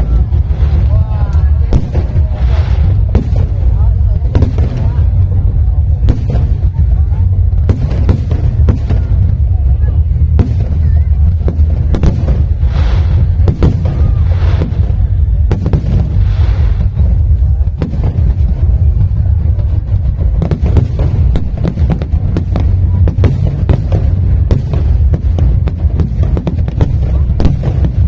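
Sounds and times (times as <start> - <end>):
deep rumble: 0.0 - 28.0
fireworks bangs: 0.0 - 28.0
fireworks crackle: 0.0 - 28.0.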